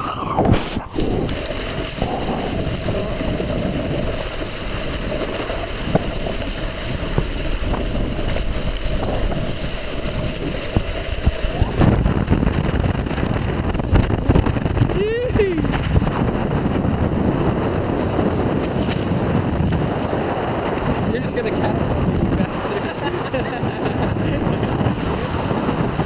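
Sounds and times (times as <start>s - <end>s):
water rushing past boat: 0.0s - 26.0s
wind buffeting microphone: 0.0s - 26.0s.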